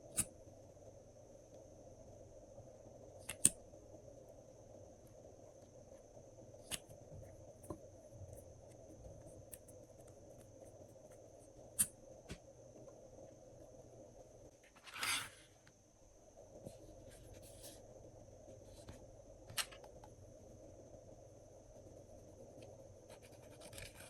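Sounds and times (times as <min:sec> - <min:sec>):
faint high whine: 0:00.0 - 0:24.0.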